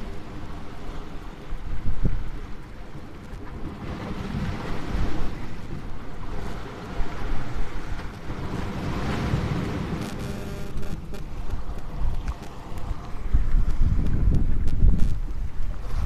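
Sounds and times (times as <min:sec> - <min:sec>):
wind buffeting microphone: 0:00.0 - 0:10.1, 0:10.8 - 0:16.0
sea waves breaking on rocks: 0:00.0 - 0:16.0.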